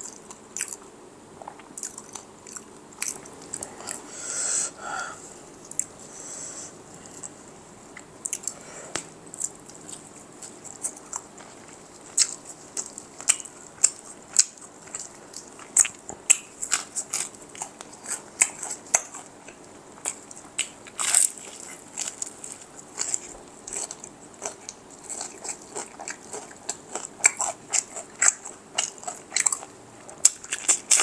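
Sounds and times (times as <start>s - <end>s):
chewing crispy fried chicken: 0.0s - 4.1s, 9.3s - 31.0s.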